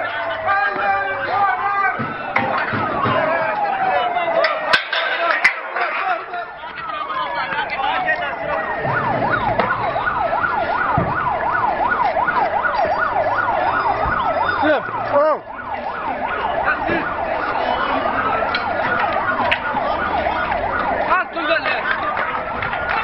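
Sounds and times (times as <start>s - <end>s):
siren wail: 0.0s - 23.0s
siren yelp: 0.0s - 23.0s.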